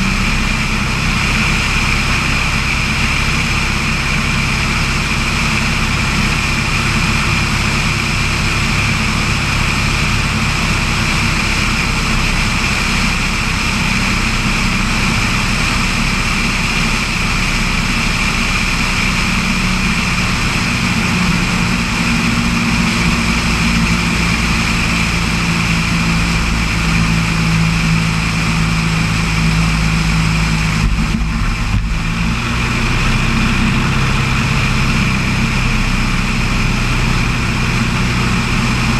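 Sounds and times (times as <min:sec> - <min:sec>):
floatplane engine and propeller: 0:00.0 - 0:38.9.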